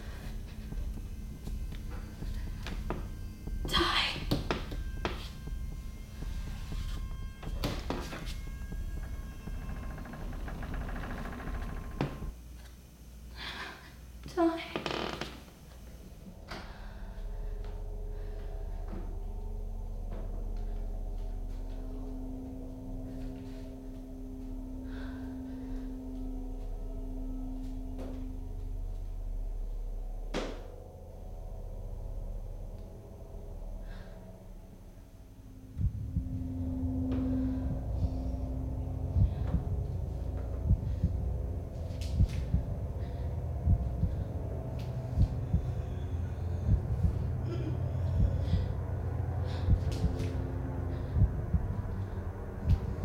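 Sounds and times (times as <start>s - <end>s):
dark ambient horror score: 0.0s - 12.4s, 13.1s - 53.0s
low ominous drone: 0.0s - 53.0s.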